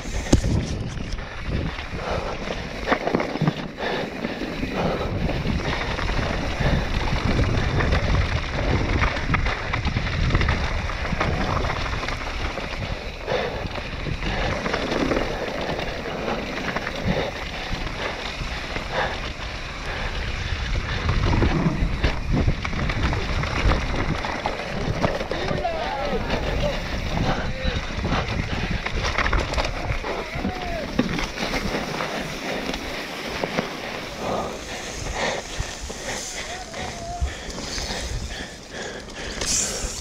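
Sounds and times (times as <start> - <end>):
bike clattering over bumps: 0.0 - 40.0
tyres on loose dirt and stones: 0.0 - 40.0
wind buffeting microphone: 0.0 - 40.0.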